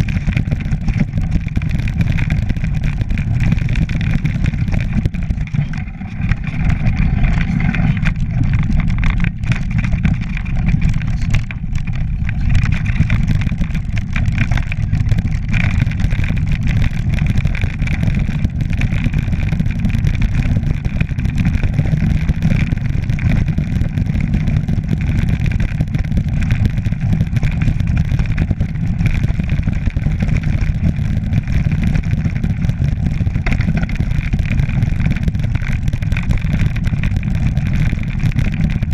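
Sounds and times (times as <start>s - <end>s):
bike rattling over rocks: 0.0s - 38.9s
bike tyres rumbling on ground: 0.0s - 38.9s
wind buffeting microphone: 0.0s - 38.9s.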